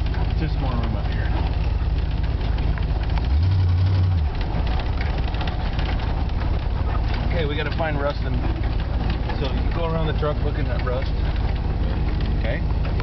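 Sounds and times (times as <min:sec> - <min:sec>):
cab rattle: 0:00.0 - 0:13.0
truck engine drone: 0:00.0 - 0:13.0.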